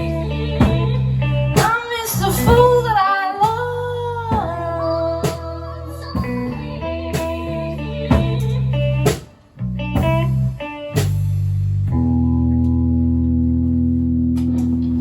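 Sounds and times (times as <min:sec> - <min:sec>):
bass notes: 0:00.0 - 0:15.0
electric guitar: 0:00.0 - 0:15.0.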